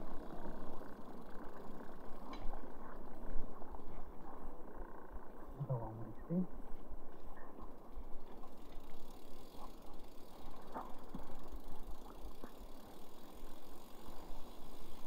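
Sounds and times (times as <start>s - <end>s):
bicycle rattling over cobbles: 0.0s - 15.0s.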